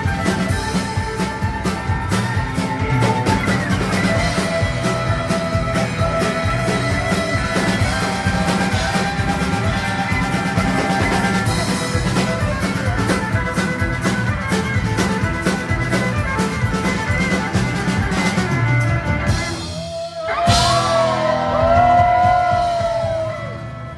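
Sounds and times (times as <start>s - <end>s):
rock music: 0.0s - 23.9s.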